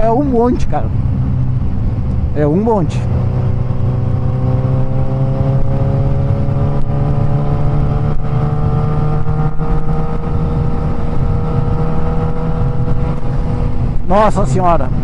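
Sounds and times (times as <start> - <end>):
motorcycle engine accelerating: 0.0 - 14.3.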